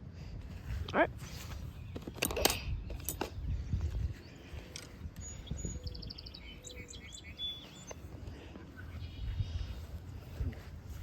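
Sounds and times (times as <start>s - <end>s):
songbird chirping: 1.3s - 10.4s.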